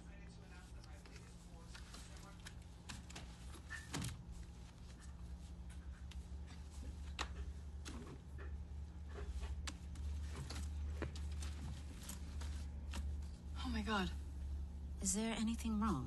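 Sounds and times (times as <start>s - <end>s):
low room tone hum: 0.0s - 16.0s.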